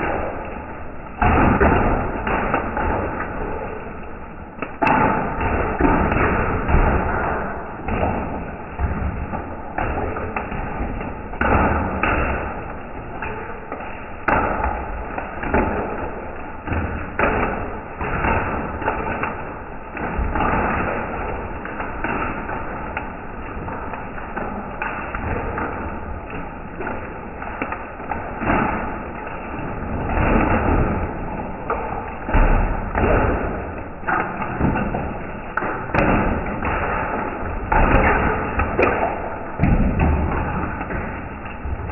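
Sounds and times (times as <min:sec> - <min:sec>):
hail pelting concrete: 0:00.0 - 0:41.9.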